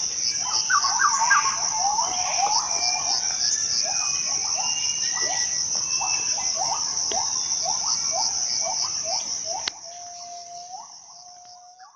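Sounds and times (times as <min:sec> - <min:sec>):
insects droning: 0:00.0 - 0:11.9.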